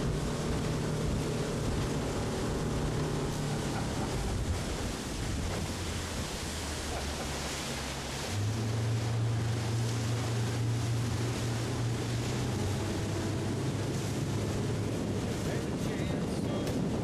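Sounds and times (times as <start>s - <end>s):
wind on microphone: 0.0s - 7.5s, 8.2s - 17.0s
churning wake water: 0.0s - 17.0s
outboard motor running: 0.0s - 17.0s.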